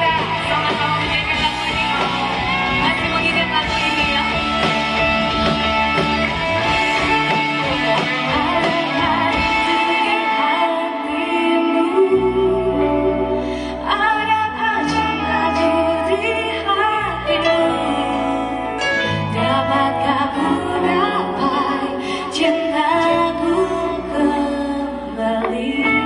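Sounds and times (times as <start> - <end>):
held bass notes: 0.0 - 26.0
live band playing slow song: 0.0 - 26.0
woman singing: 0.0 - 26.0.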